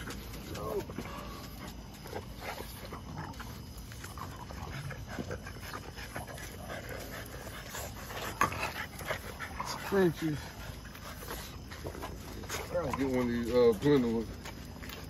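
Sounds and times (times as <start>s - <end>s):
dogs panting and snuffling: 0.0s - 15.0s.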